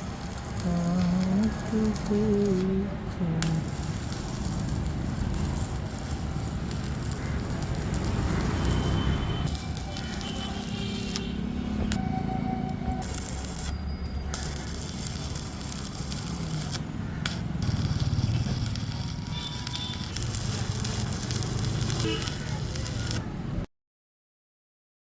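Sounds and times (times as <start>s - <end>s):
arc welding crackling sizzle: 0.0s - 23.7s.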